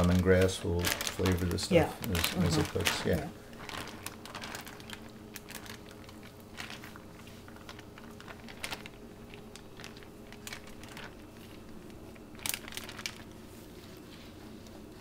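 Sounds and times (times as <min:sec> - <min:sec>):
faint steady hum: 0:00.0 - 0:15.0
plastic bag crinkling: 0:00.0 - 0:15.0.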